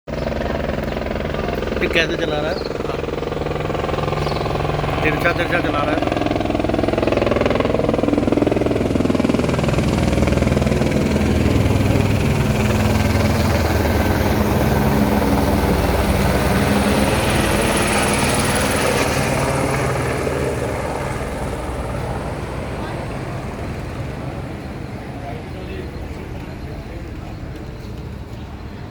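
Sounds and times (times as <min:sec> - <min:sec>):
helicopter flying close by: 0:00.1 - 0:28.9.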